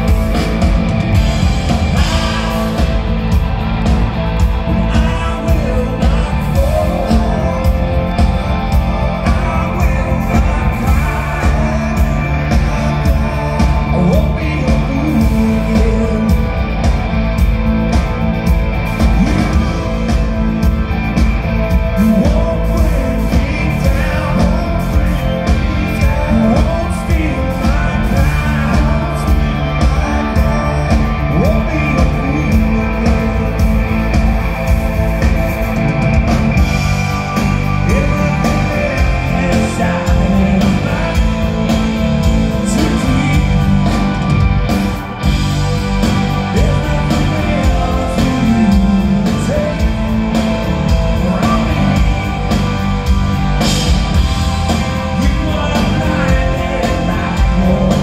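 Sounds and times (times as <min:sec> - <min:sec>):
bass guitar: 0:00.0 - 0:58.0
drum kit: 0:00.0 - 0:58.0
electric guitar: 0:00.0 - 0:58.0
man singing: 0:02.0 - 0:03.3, 0:04.4 - 0:17.0, 0:18.9 - 0:35.8, 0:36.6 - 0:44.8, 0:45.9 - 0:58.0.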